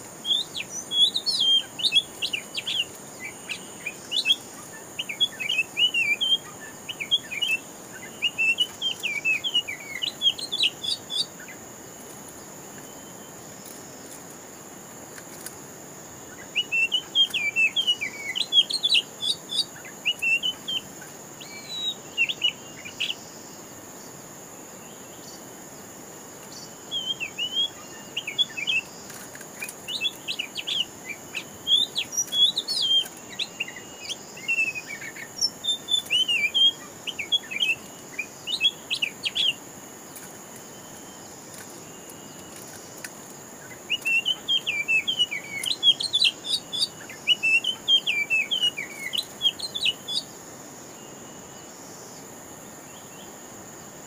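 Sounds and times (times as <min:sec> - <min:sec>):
birds chirping: 0:00.0 - 0:53.4
high insect drone: 0:00.0 - 0:54.0.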